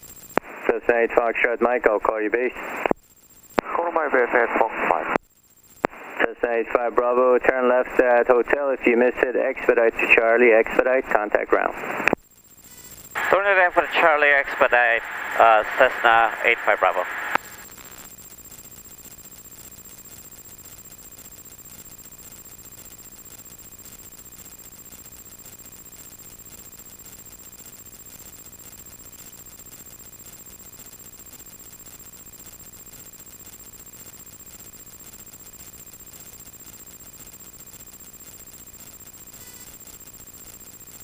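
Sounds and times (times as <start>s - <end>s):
high-pitched electrical whine: 0.0s - 41.0s.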